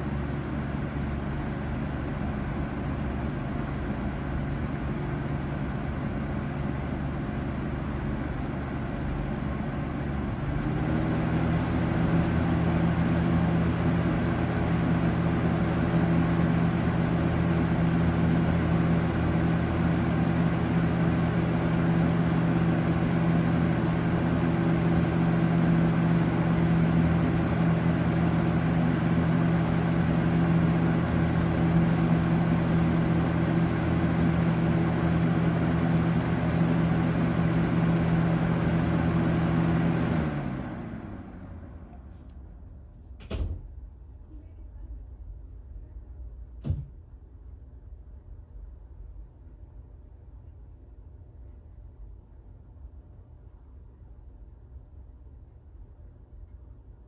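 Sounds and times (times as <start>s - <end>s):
box fan motor hum: 0.0s - 57.0s
fan rushing air: 0.0s - 57.0s.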